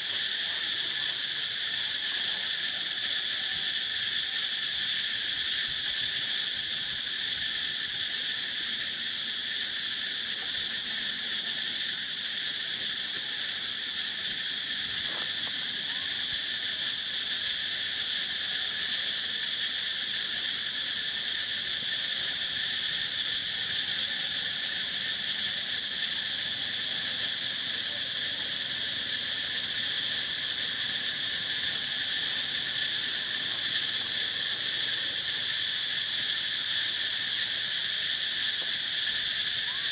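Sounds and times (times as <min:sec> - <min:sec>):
insects chorus shrill drone: 0:00.0 - 0:39.9.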